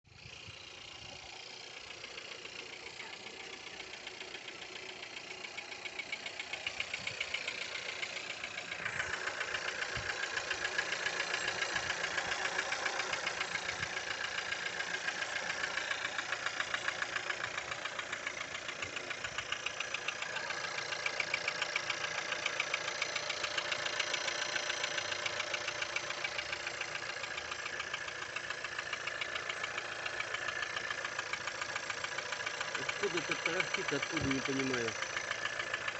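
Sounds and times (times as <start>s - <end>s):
car engine idling: 0.0s - 35.9s
rapid knocking tick: 3.6s - 35.9s.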